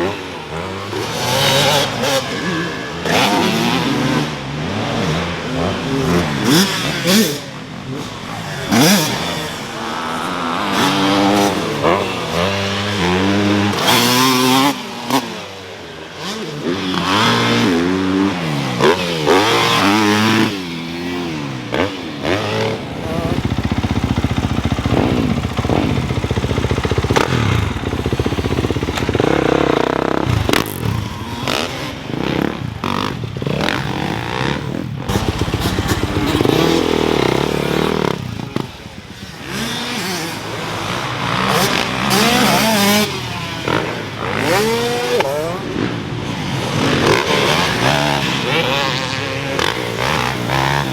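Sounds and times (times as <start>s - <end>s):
dirt bikes revving: 0.0s - 50.9s.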